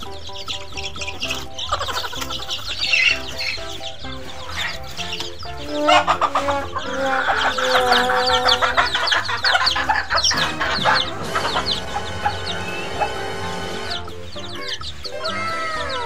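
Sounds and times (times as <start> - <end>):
background music: 0.0 - 16.0
chickens clucking: 0.0 - 16.0.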